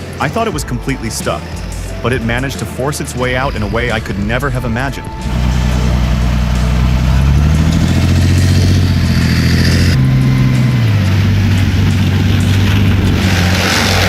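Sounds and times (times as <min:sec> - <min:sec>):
heavy vehicle engine running hard: 0:00.0 - 0:14.0.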